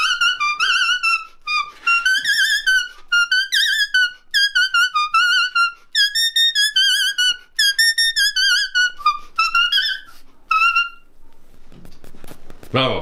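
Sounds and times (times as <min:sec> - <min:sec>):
leaf whistle tune: 0:00.0 - 0:11.1.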